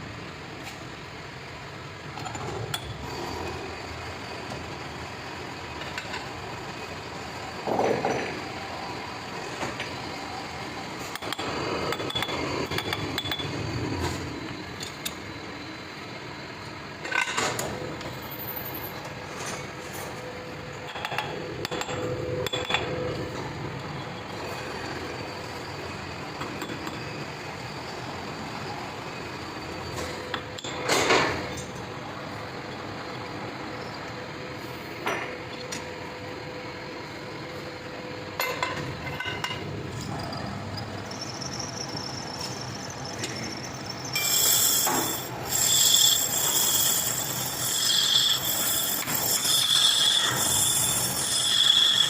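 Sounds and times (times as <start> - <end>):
workshop background noise: 0.0 - 52.0.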